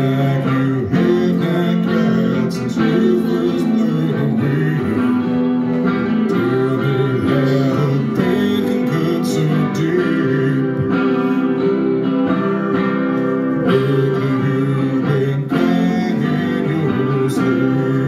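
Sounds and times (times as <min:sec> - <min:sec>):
electric guitar strumming chords: 0:00.0 - 0:18.0
man singing into microphone: 0:00.0 - 0:18.0.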